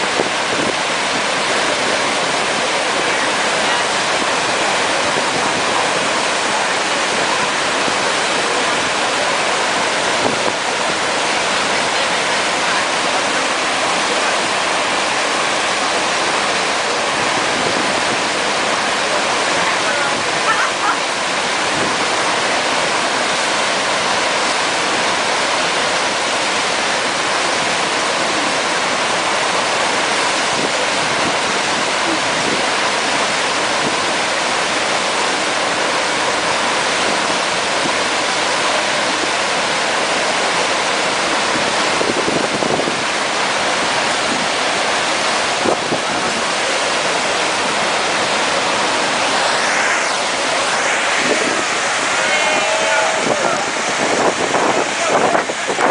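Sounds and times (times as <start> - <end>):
water rushing and churning: 0.0 - 55.9.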